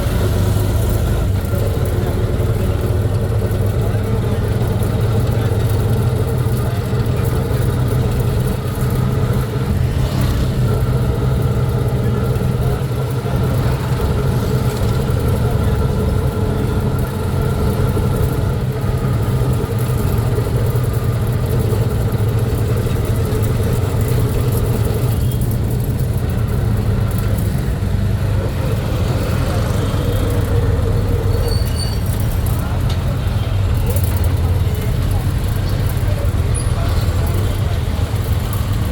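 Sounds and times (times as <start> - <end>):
road noise: 0.0 - 38.9
vehicle engine humming: 0.0 - 38.9.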